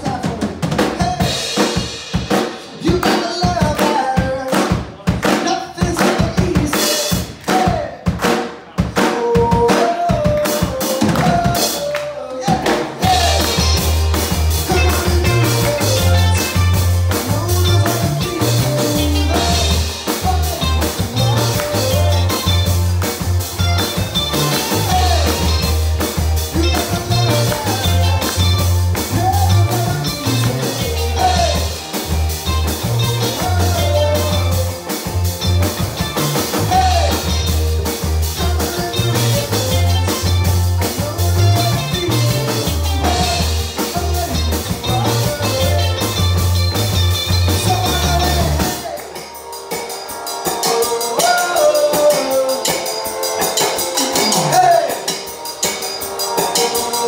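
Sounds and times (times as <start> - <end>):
bass guitar: 0.0 - 57.0
drum kit: 0.0 - 57.0
person singing: 2.6 - 8.1, 8.7 - 57.0
electric guitars: 9.0 - 57.0.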